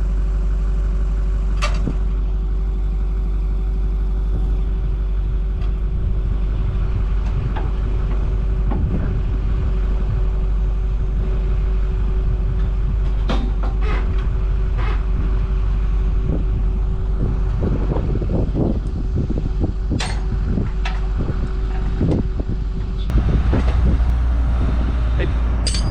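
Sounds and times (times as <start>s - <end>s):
truck engine running: 0.0s - 25.9s.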